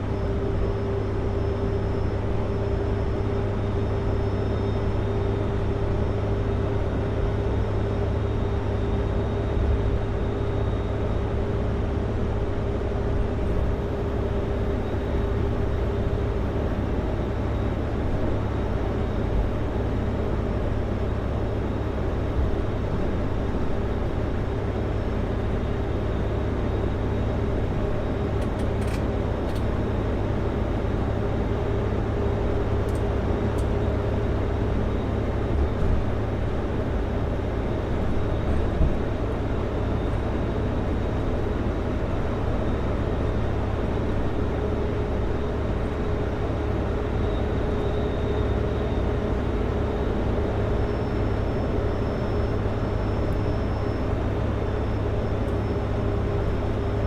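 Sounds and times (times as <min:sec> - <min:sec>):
road noise: 0:00.0 - 0:57.0
steady whine: 0:00.0 - 0:57.0.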